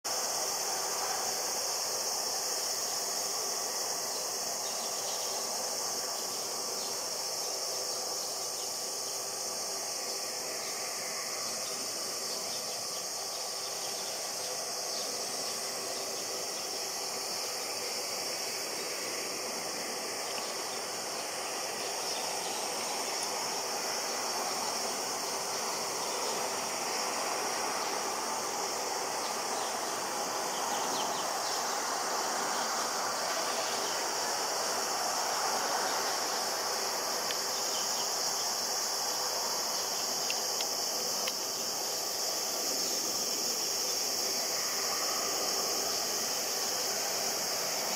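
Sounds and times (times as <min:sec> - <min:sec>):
insects droning: 0:00.0 - 0:47.9
distant jet airliner engine: 0:00.1 - 0:47.9.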